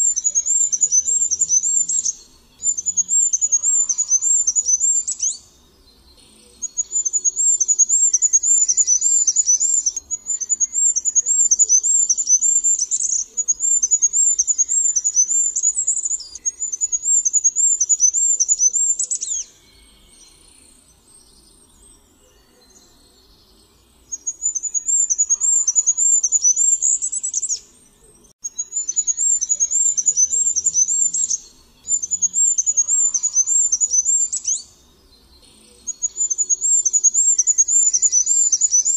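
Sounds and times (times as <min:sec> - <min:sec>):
small bird singing high thin song: 0:00.0 - 0:38.9.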